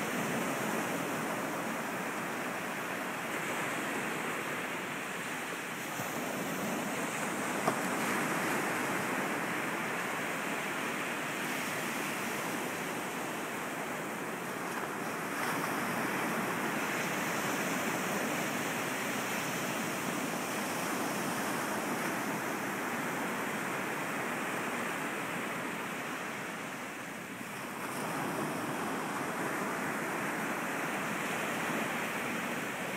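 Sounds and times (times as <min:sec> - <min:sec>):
ocean waves breaking on a beach: 0:00.0 - 0:32.9.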